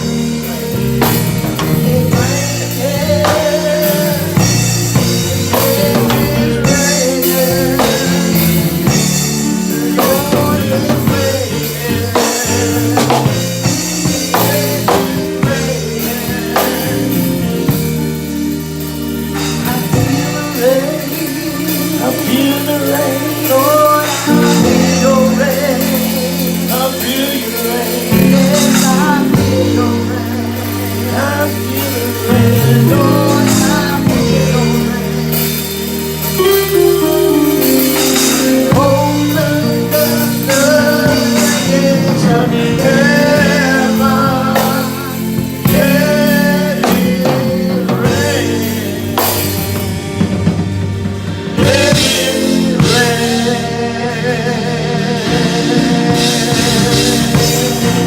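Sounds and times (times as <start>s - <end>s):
gospel music with singing: 0.0s - 58.0s.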